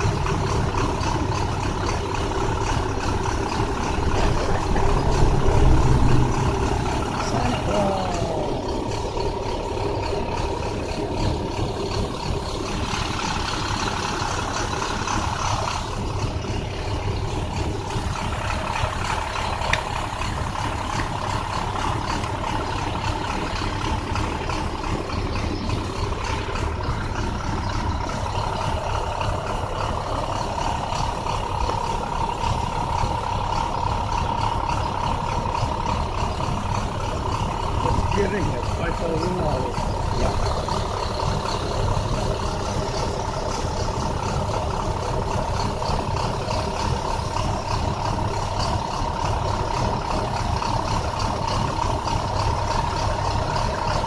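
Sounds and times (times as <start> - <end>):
bus engine misfiring: 0.0 - 54.0.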